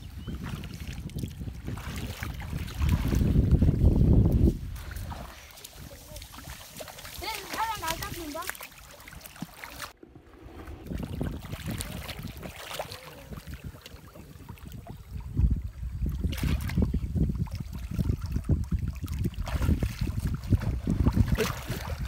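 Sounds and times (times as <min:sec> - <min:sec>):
wind buffeting microphone: 0:00.0 - 0:08.5, 0:09.9 - 0:22.0
stream water splashing: 0:00.0 - 0:22.0.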